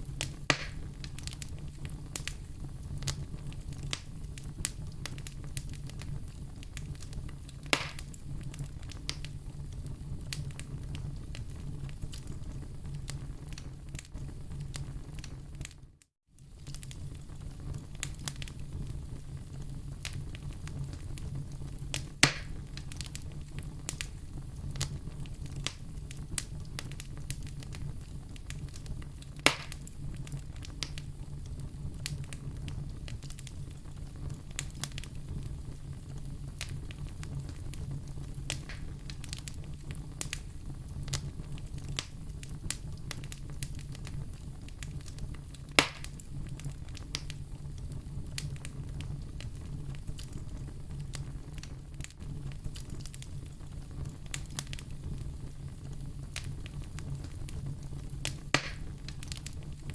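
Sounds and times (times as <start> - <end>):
fire snaps and pops: 0.0 - 59.9
wood fire crackling: 0.0 - 59.9.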